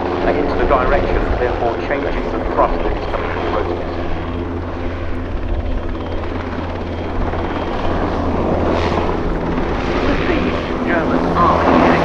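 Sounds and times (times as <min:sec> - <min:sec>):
helicopter rotor beat: 0:00.0 - 0:12.0
turbine noise: 0:00.0 - 0:12.0.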